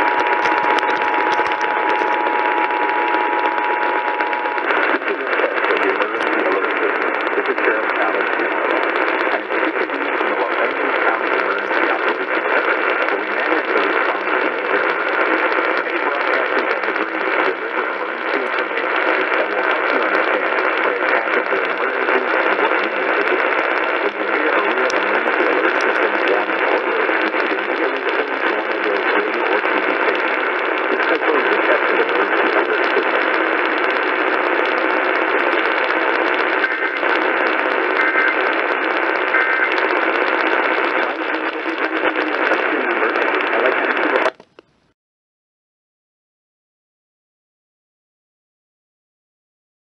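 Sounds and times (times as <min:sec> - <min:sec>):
faint voice on radio: 0:00.0 - 0:44.4
radio static hiss: 0:00.0 - 0:44.8.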